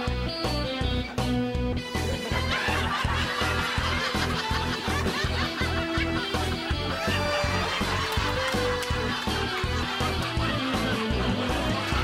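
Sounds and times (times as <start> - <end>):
upbeat music with steady beat: 0.0 - 12.0
person laughing: 1.9 - 12.0.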